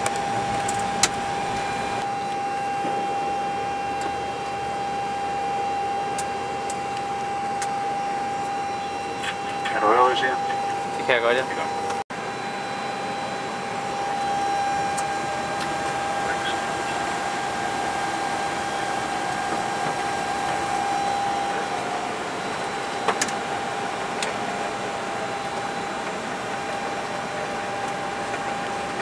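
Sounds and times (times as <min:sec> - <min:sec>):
thin steady whine: 0:00.0 - 0:29.0.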